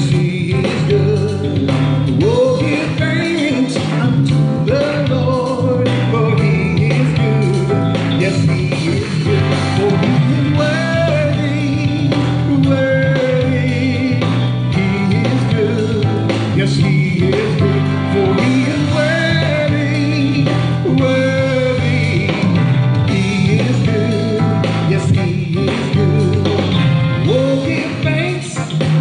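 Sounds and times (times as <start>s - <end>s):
instrumental accompaniment: 0.0s - 29.0s
man singing into a microphone: 0.0s - 29.0s.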